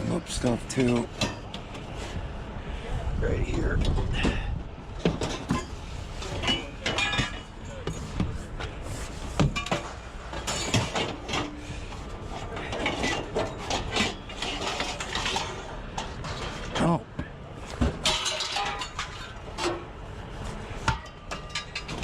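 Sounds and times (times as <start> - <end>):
scrap metal clanking and scraping: 0.0 - 2.3, 3.6 - 17.0, 17.6 - 22.0.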